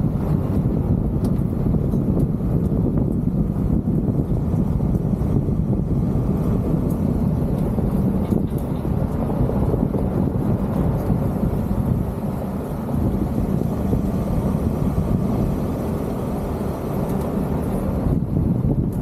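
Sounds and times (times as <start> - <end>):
vehicle driving on gravel: 0.0 - 19.0
wind on microphone: 0.0 - 19.0.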